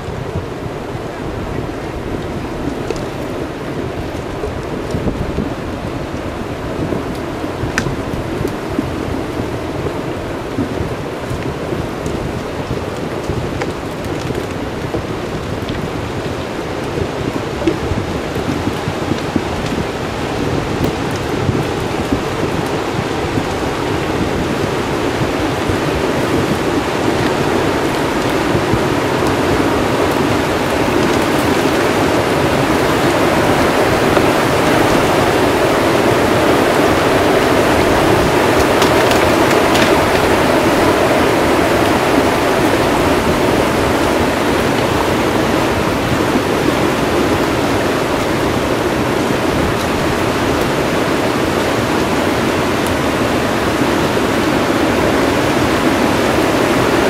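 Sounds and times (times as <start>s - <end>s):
flood water rushing with debris: 0.0s - 57.0s.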